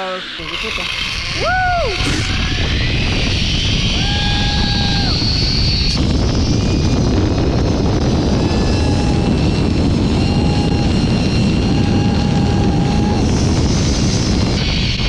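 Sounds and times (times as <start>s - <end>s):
zipline pulley whining on cable: 0.0s - 15.0s
wind rushing over microphone: 0.4s - 15.0s.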